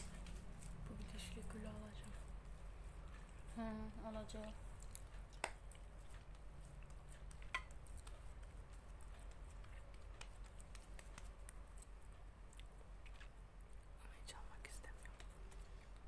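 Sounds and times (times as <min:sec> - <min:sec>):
sticky dough squishes: 0:00.0 - 0:14.0.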